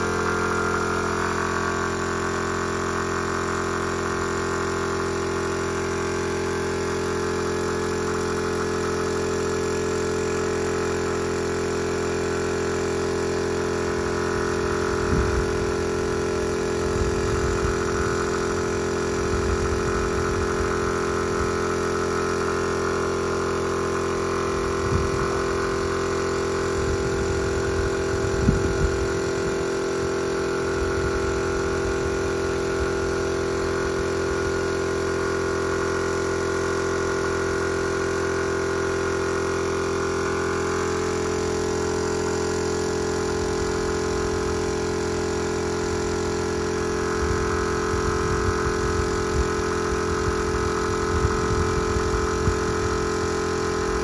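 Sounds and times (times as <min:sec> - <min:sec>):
air compressor humming: 0:00.0 - 0:54.0.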